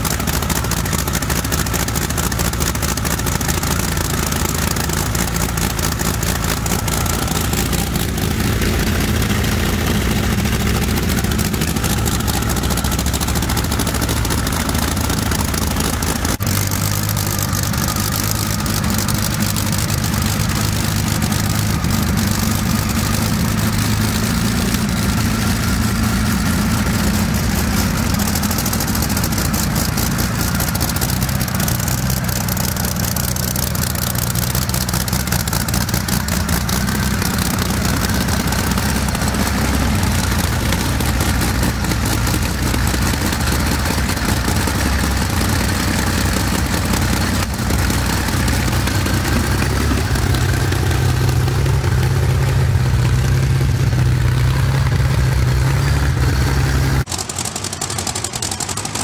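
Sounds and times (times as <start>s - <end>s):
aero engine running: 0.0s - 59.0s.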